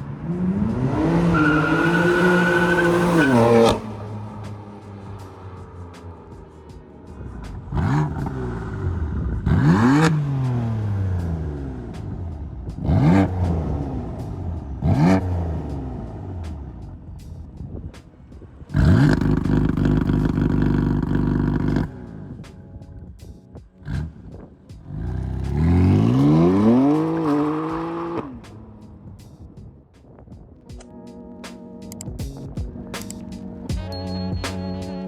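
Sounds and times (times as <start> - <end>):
car engine revving: 0.0 - 22.8, 23.8 - 29.3.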